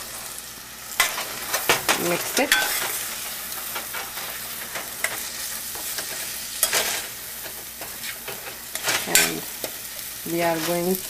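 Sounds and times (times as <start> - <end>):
chickpeas sizzling in oil: 0.0 - 11.0.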